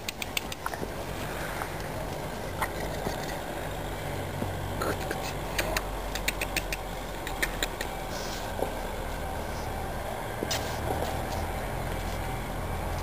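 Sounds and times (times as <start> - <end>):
low engine hum: 0.3 - 13.0.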